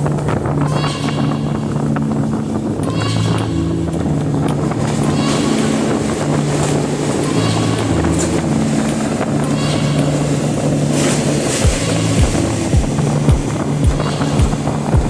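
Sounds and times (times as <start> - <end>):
low droning hum: 0.0 - 15.0
train wheels rumbling on rails: 0.0 - 15.0.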